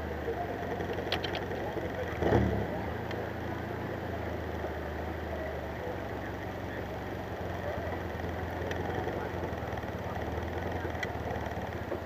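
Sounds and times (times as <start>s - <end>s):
car engine low exhaust note: 0.0s - 12.0s.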